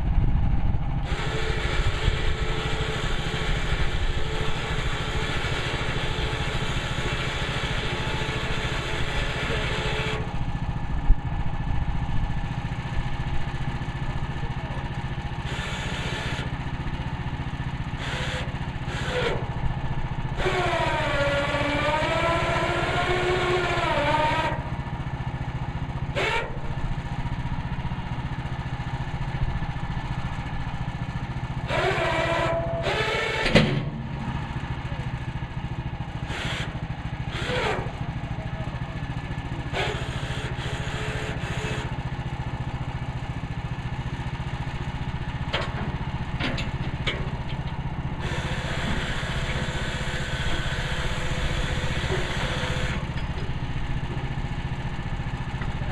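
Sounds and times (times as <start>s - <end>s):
gas engine running: 0.0s - 55.9s.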